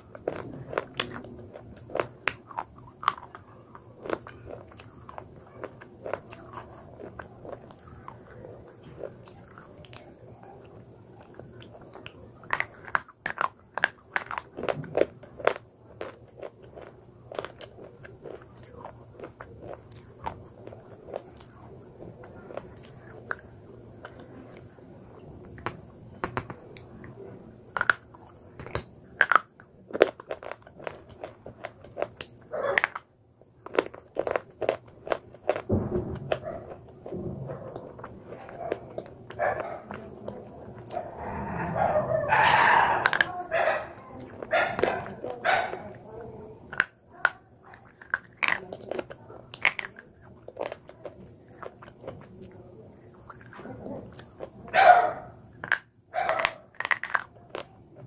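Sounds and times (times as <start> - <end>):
person chewing crunchy slate: 0.0 - 25.8, 27.6 - 58.0.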